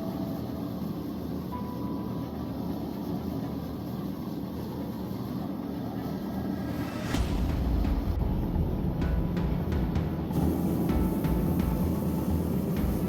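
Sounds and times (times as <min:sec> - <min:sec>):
forge burner rushing: 0:00.3 - 0:13.0.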